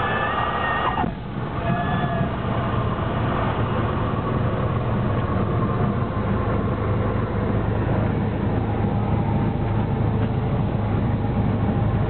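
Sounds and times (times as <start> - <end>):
piston engine idling: 0.0 - 12.0
wind noise: 0.0 - 12.0.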